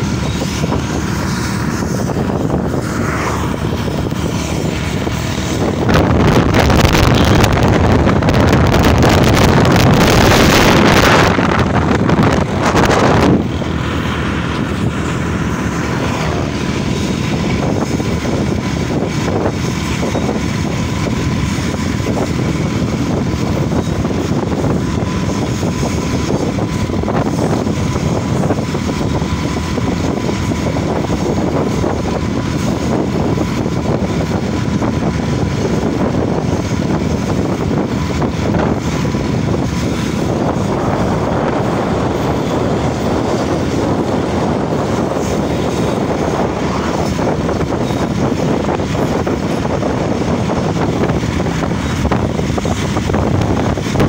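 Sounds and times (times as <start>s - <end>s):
loud rushing noise: 0.0s - 54.0s
train rumbling and rattling: 0.0s - 54.0s
wind on microphone: 0.0s - 54.0s.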